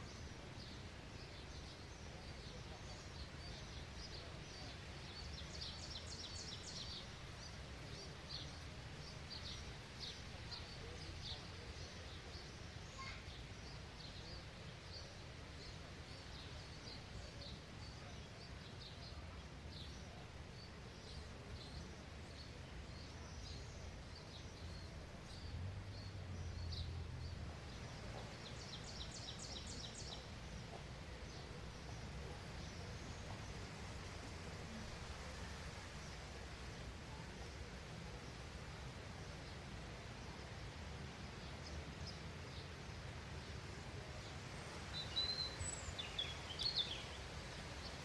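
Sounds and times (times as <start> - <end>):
outdoor background hiss: 0.0 - 48.0
small birds chirping: 0.0 - 48.0.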